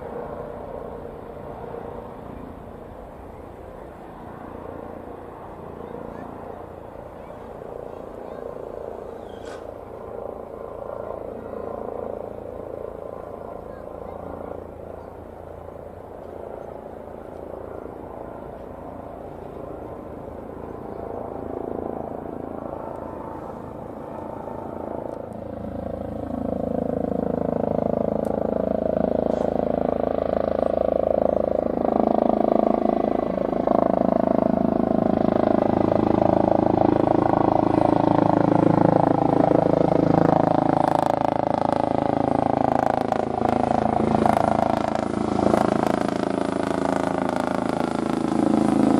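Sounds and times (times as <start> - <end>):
distant aircraft noise: 0.0 - 48.9
helicopter rotor and turbine: 0.0 - 48.9.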